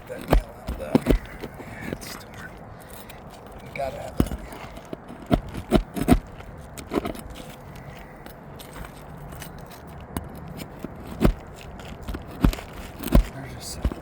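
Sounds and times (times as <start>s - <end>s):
hand tools scraping shingles: 0.0s - 14.0s.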